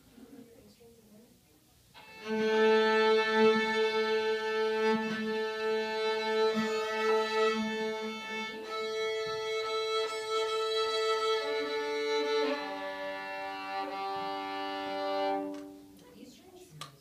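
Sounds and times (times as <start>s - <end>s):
string ensemble tuning: 2.0s - 16.0s.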